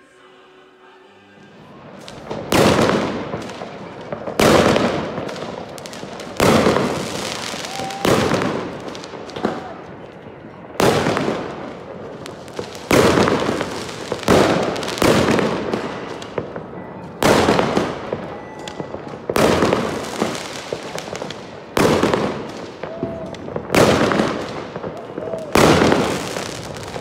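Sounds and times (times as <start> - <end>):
long rolling echo: 0.0 - 27.0
fireworks bangs: 1.4 - 27.0.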